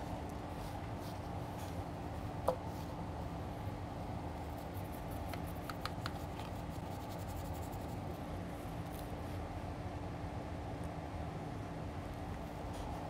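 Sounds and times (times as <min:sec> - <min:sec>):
equipment hum and hiss: 0:00.0 - 0:13.0.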